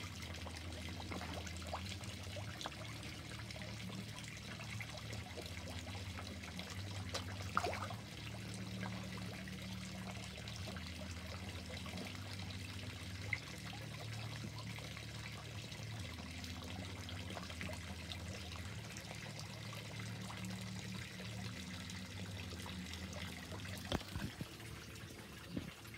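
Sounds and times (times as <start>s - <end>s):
low steady hum: 0.0s - 25.9s
water trickling in a pond: 0.0s - 25.9s.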